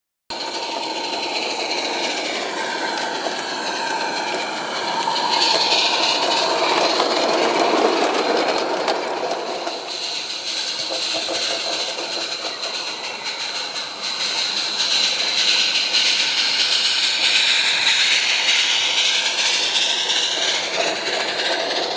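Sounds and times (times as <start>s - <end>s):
model train wheels clicking over rail joints: 0.3s - 21.9s.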